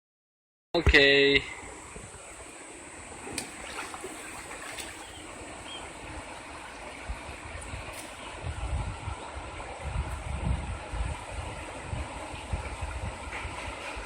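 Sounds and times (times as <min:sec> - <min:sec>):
stream water rushing: 0:01.1 - 0:14.0.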